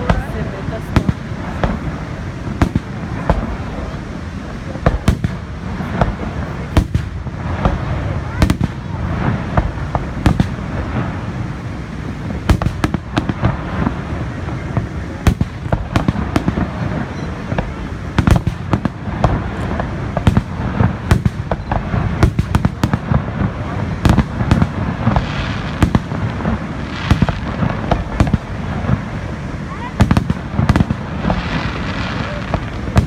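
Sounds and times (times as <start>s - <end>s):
fireworks bangs and cracks: 0.0s - 33.0s.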